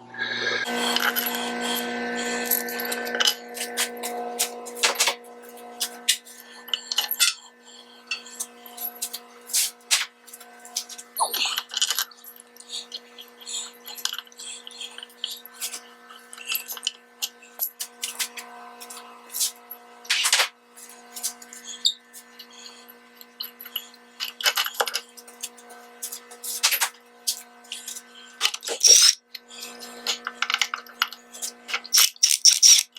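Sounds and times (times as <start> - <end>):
steady background hum: 0.0 - 32.9.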